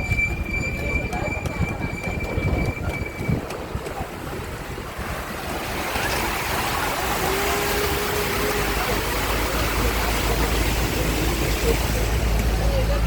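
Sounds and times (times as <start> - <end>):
road and wind noise of car: 0.0 - 13.0.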